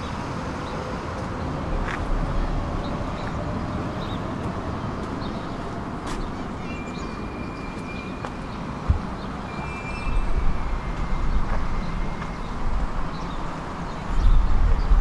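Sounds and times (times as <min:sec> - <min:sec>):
tram rolling on track: 0:00.0 - 0:15.0.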